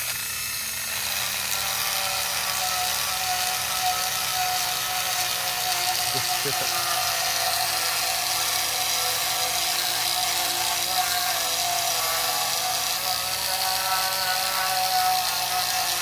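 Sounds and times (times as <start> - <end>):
rotary tool grinding metal: 0.0 - 16.0.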